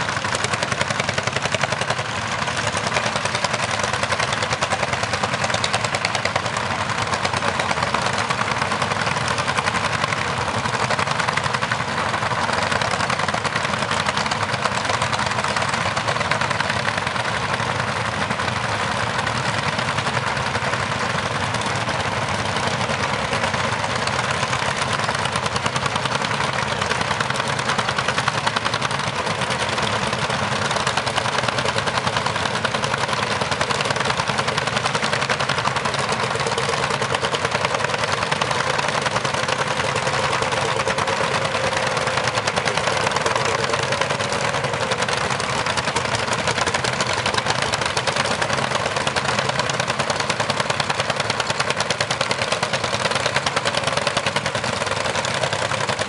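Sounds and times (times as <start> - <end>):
tractor engines chugging: 0.0 - 56.0.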